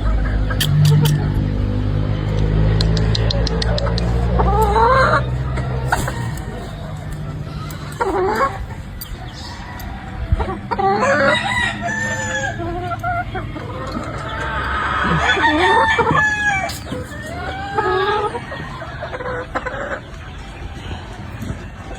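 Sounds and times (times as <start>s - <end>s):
chickens clucking: 0.0s - 1.6s, 2.2s - 21.9s
roosters crowing: 0.0s - 21.9s.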